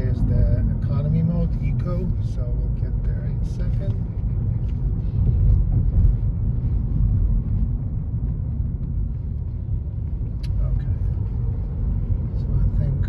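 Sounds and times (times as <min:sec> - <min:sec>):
tyre and road rumble in car: 0:00.0 - 0:13.0.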